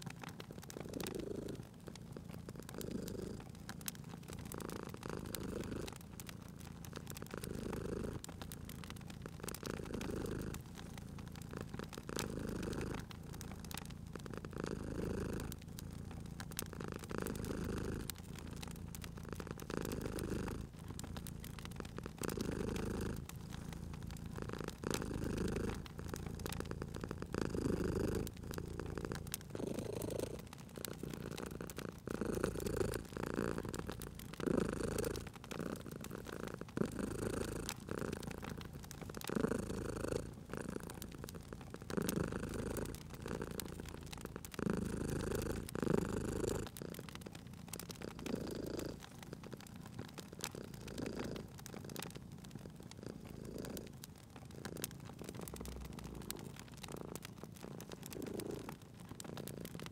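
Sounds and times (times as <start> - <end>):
cat purring: 0.0 - 59.9
wood fire crackling: 0.0 - 59.9.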